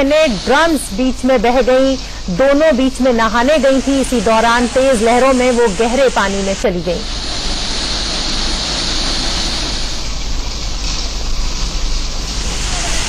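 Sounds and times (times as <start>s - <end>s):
rough sea surf rushing: 0.0s - 13.0s.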